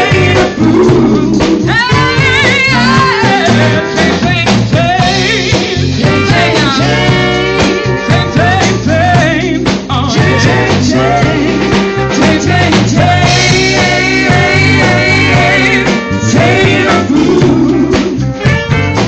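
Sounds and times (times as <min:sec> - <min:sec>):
live band playing upbeat tune: 0:00.0 - 0:19.0.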